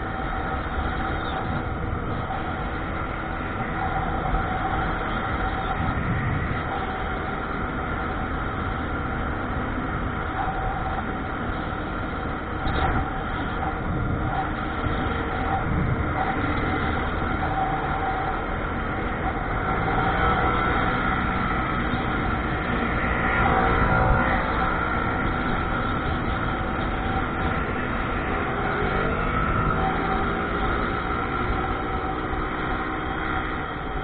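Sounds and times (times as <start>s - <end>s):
faint steady whine: 0.0s - 34.0s
vehicle engine rumble: 0.0s - 34.0s.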